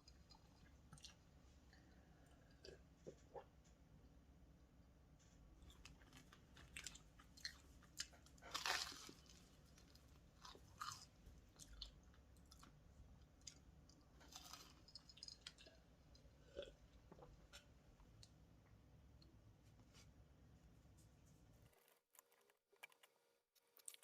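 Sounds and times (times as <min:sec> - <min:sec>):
chewing and crunching food: 0:00.0 - 0:03.8, 0:05.2 - 0:18.4, 0:21.6 - 0:24.0.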